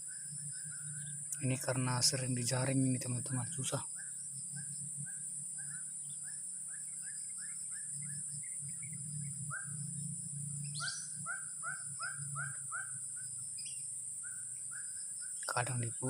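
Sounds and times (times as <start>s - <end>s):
steady high-pitched hiss: 0.0s - 16.0s.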